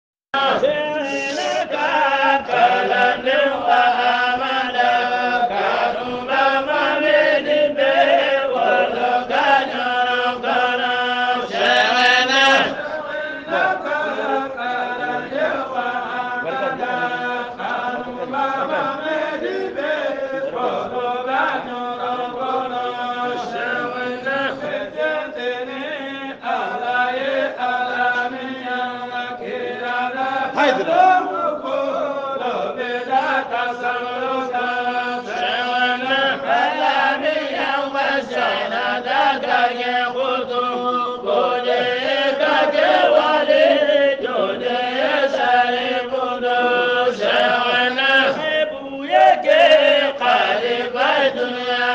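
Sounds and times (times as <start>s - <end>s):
voices chanting devotional poem: 0.4s - 51.9s.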